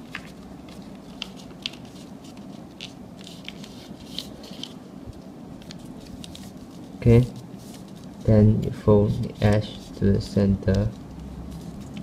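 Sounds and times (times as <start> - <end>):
paper rustling and crackling: 0.0 - 12.0.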